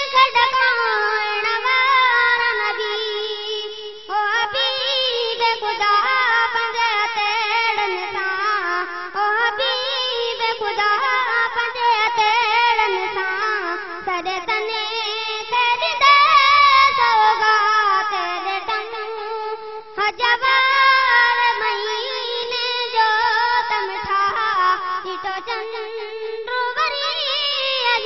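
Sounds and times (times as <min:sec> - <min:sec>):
boy singing unaccompanied: 0:00.0 - 0:28.0.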